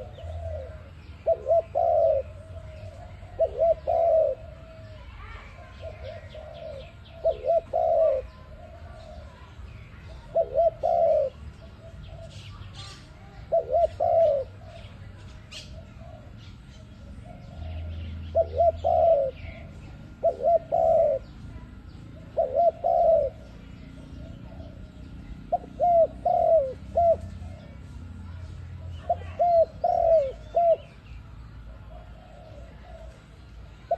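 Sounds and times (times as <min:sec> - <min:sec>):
dove cooing: 0:00.0 - 0:33.9.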